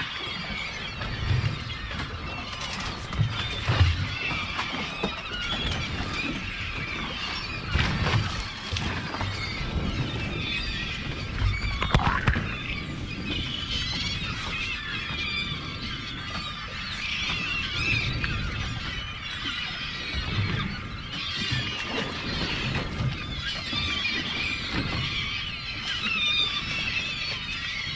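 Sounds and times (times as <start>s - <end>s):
gulls calling: 0.0s - 27.9s
wind on microphone: 0.0s - 27.9s.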